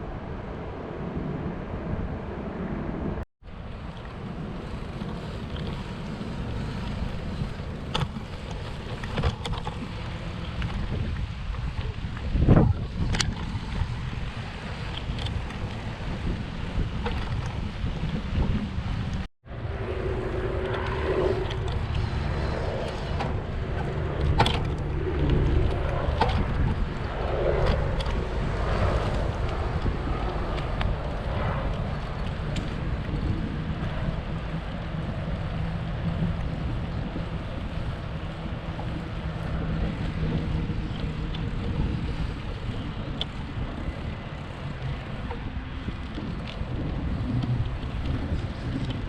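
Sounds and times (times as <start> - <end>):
wind rumbling on microphone: 0.0 - 49.0.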